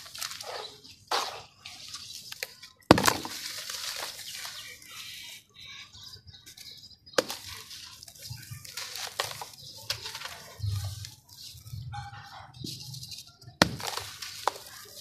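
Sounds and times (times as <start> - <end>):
sand rustling and pattering: 0.0 - 5.4, 6.0 - 15.0.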